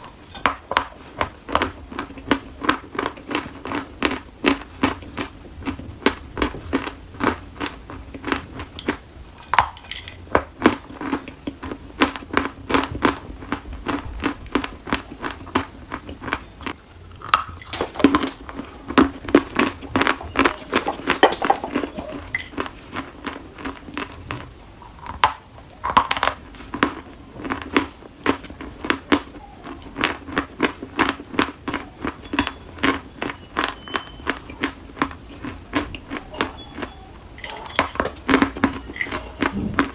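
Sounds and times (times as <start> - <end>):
dry chalk being chewed: 0.0 - 39.9.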